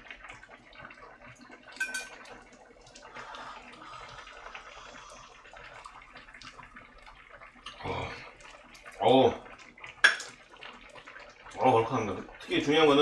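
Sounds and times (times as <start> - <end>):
stew simmering and bubbling in pot: 0.0 - 13.0.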